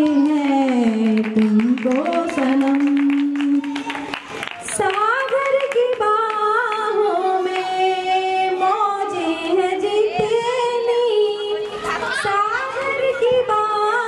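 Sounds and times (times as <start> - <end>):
woman singing long notes: 0.0 - 4.0, 4.8 - 14.0.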